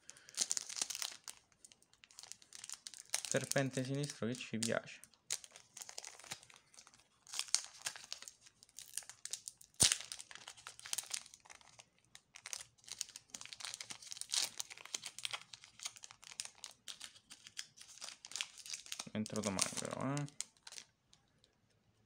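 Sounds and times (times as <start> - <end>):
foil wrapper crinkling and tearing: 0.0 - 21.0.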